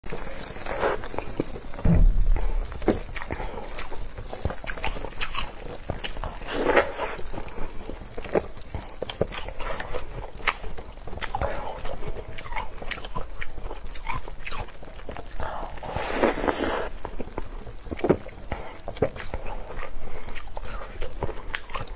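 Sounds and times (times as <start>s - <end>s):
person chewing food: 0.1s - 21.9s.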